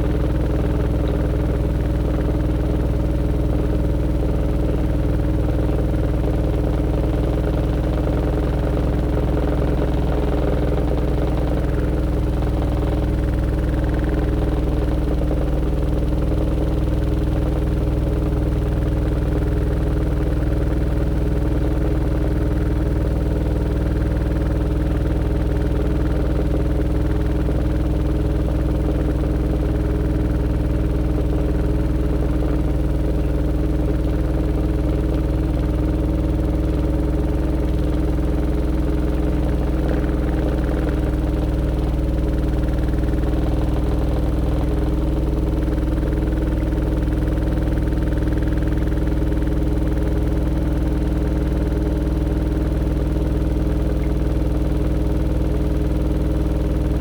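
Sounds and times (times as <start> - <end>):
washing machine spinning: 0.0 - 25.5, 26.2 - 57.0.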